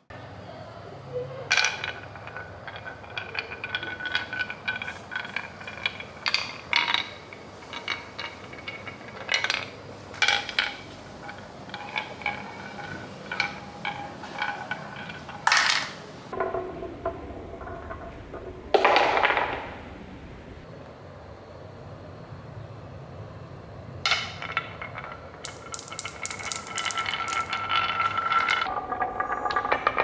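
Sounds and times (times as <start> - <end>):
marbles clattering along a marble run: 1.4 - 19.8, 24.1 - 30.0.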